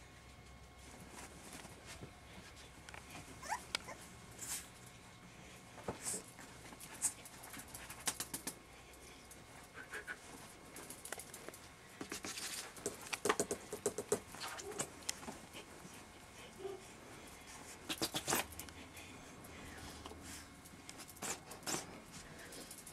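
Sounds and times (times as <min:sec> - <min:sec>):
puppies scratching and pawing: 0:00.4 - 0:22.9.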